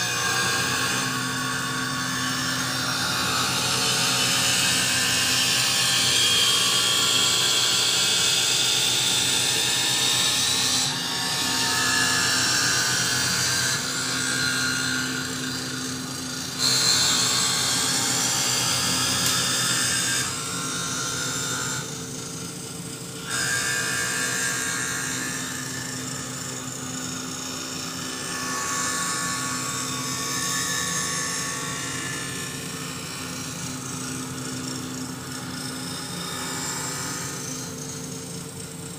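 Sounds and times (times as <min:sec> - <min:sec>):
machine mechanical whine: 0:00.0 - 0:38.9.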